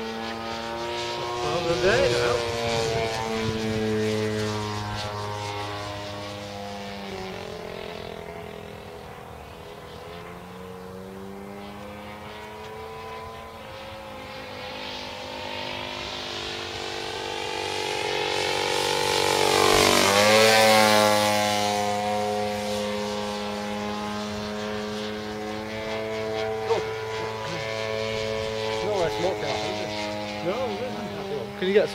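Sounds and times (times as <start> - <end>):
model plane engine flying by: 0.0 - 31.9.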